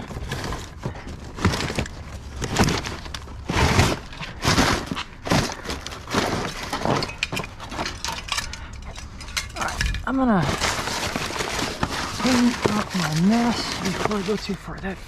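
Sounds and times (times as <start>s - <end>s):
metal and glass scrap clattering: 1.6s - 14.7s.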